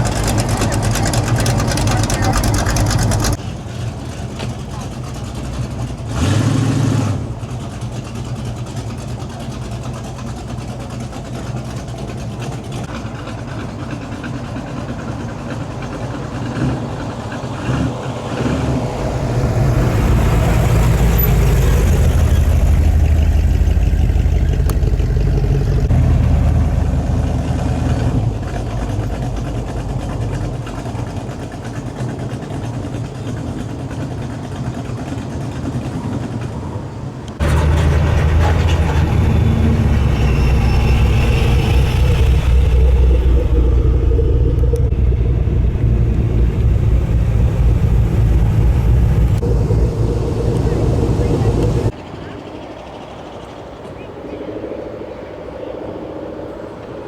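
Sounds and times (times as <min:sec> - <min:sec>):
car with low exhaust note passing: 0:00.0 - 0:55.6
cars driving past: 0:00.0 - 0:57.0.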